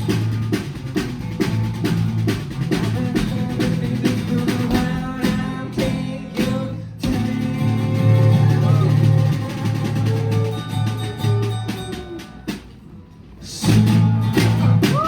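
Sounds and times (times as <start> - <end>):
rock band playing: 0.0 - 13.0, 13.6 - 15.0
drum kit beating: 0.0 - 15.0.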